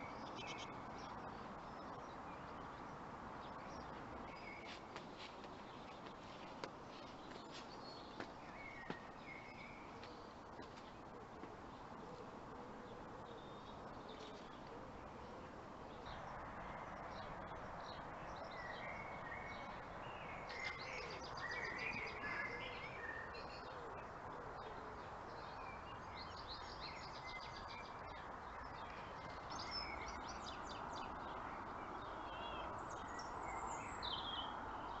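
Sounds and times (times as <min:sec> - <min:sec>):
outdoor background noise: 0:00.0 - 0:35.0
songbirds chirping and trilling: 0:00.0 - 0:35.0.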